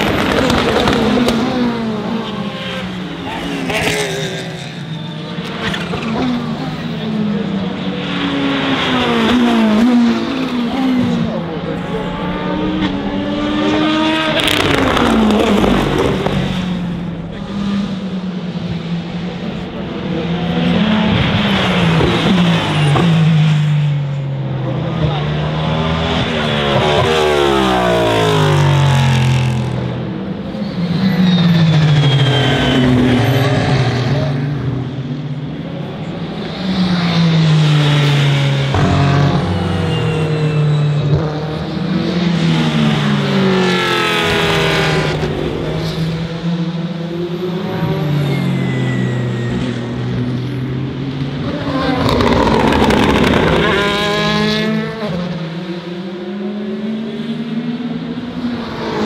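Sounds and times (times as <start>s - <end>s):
racing cars passing at speed: 0.0s - 59.0s.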